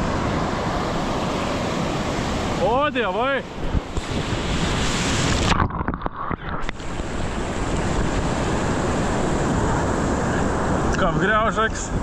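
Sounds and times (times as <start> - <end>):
water splashes: 0.0 - 11.6
muffled underwater surf: 0.0 - 12.0
ocean surf breaking: 0.0 - 12.0
wind on microphone: 0.0 - 12.0.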